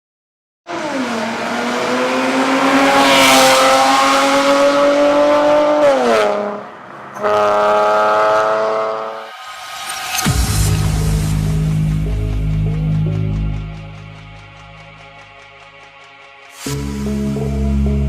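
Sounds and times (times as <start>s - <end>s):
car engine and exhaust revving: 0.7s - 18.0s.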